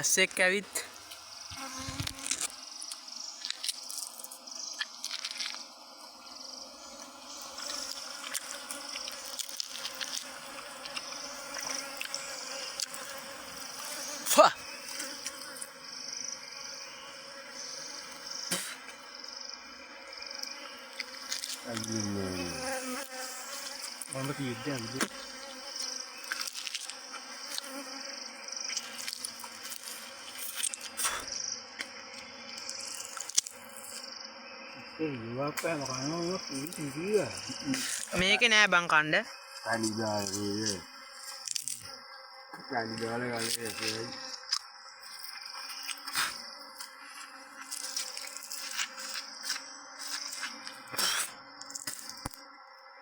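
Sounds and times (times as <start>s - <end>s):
insects buzzing: 0.0s - 53.0s.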